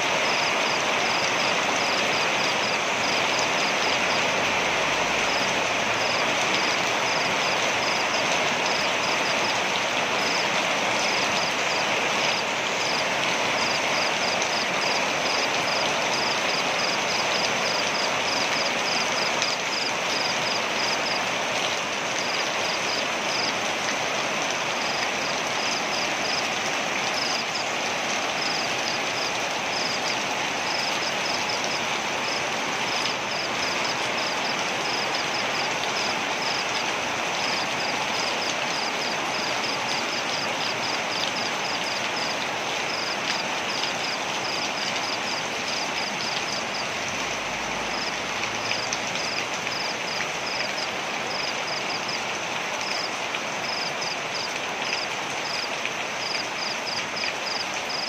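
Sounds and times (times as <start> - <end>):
waterfall rushing: 0.0 - 51.8.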